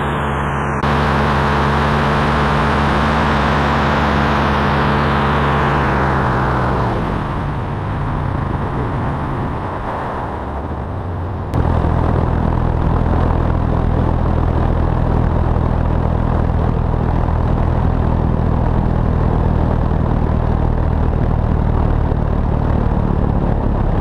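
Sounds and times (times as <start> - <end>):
airplane engine droning: 0.0 - 24.0
wind rush on camera: 0.8 - 24.0.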